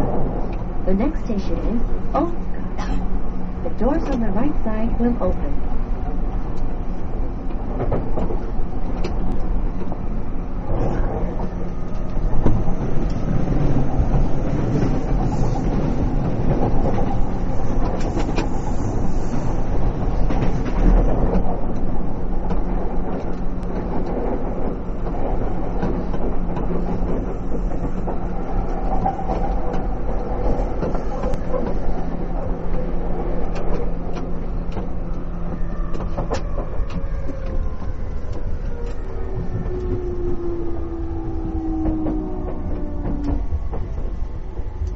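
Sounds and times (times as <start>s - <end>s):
rail joint clicks: 0.0s - 44.9s
train wheels rumbling on rail: 0.0s - 44.9s.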